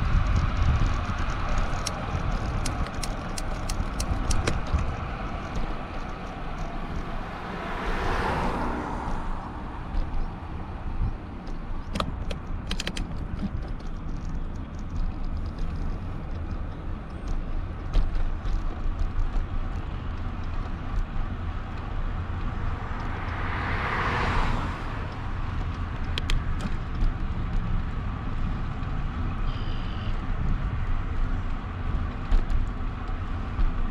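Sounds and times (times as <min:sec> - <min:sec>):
cars passing: 0:00.0 - 0:33.9
wind and road noise from bicycle: 0:00.0 - 0:33.9.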